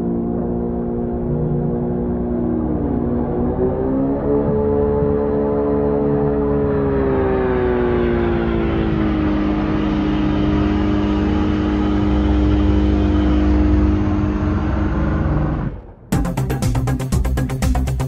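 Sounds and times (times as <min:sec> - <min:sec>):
low engine-like drone: 0:00.0 - 0:18.0
low rumble: 0:00.0 - 0:18.0.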